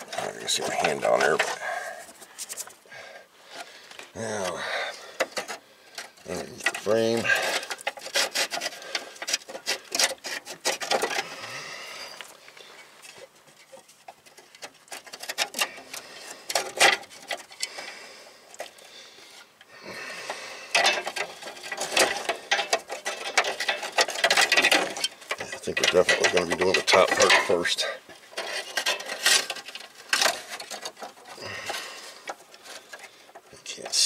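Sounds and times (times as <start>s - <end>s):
metal brake line scraping and clicking: 0.0s - 2.8s, 3.5s - 34.0s.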